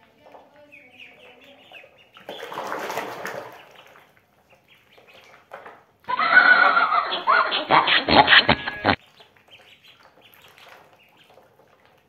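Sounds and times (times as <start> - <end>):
ducklings peeping: 0.0 - 12.0
ducklings splashing in water: 0.0 - 12.0.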